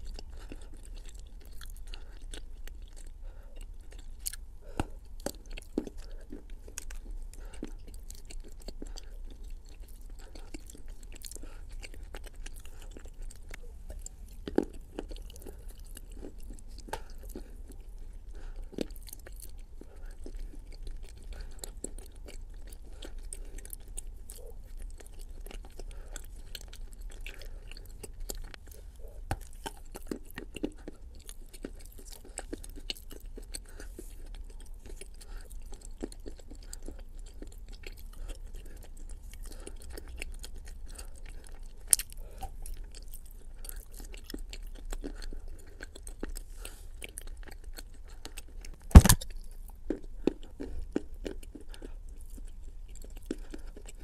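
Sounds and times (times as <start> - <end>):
mouth clicks and smacks chewing: 0.0 - 54.0.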